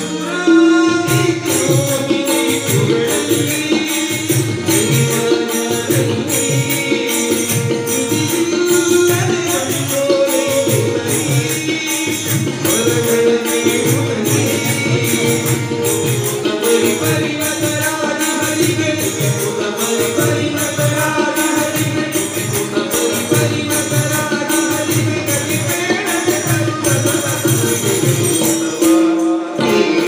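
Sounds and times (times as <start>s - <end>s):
harmonium: 0.0s - 30.0s
jingling hand percussion: 0.0s - 30.0s
tabla: 0.0s - 30.0s.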